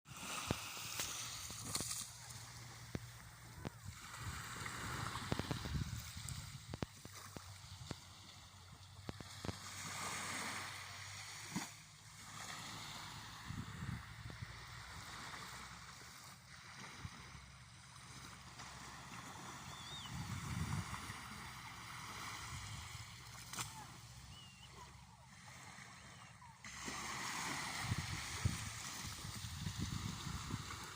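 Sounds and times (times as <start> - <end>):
small waves lapping: 0.1 - 30.9.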